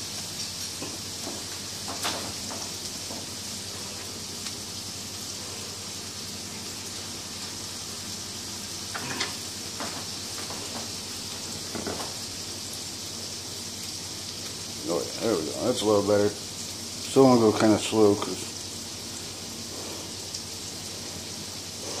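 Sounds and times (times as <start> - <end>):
patties sizzling in a frying pan: 0.0 - 22.0.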